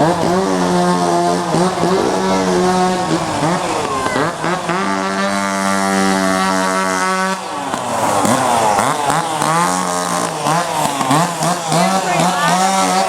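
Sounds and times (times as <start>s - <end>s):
chainsaws revving: 0.0s - 13.0s.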